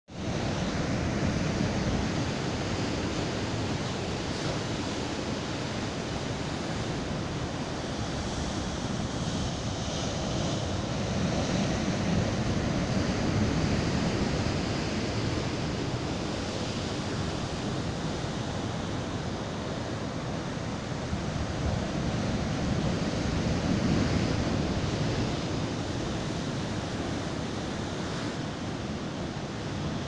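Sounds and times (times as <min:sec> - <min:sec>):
wind on microphone: 0:00.1 - 0:30.0.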